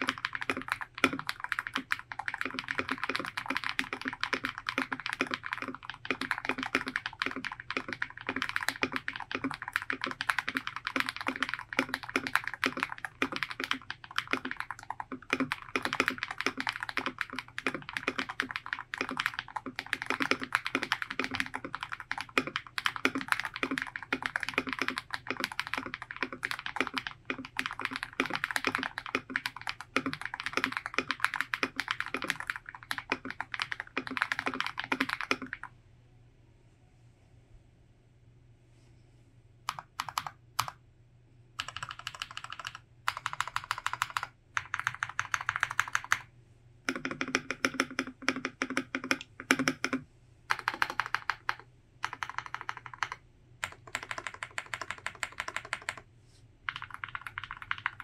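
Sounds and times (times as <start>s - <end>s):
mechanical keyboard typing: 0.0s - 35.7s, 39.7s - 40.8s, 41.6s - 46.3s, 46.9s - 56.0s, 56.7s - 58.0s.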